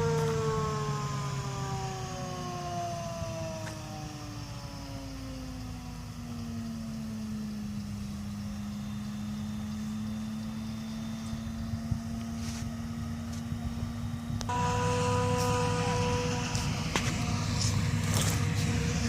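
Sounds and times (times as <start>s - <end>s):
harvesting machinery droning: 0.0s - 19.0s.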